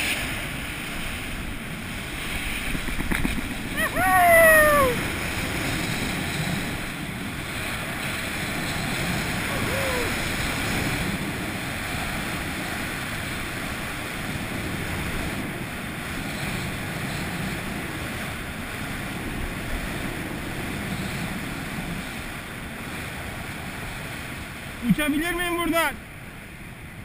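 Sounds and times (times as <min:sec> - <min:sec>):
wind buffeting microphone: 0:00.0 - 0:24.8.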